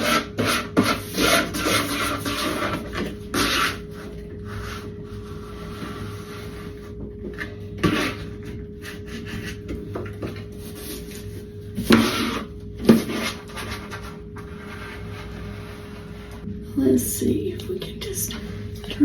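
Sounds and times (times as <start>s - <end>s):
wallpaper rustling and scraping: 0.0s - 16.5s
steady low hum: 0.0s - 19.0s.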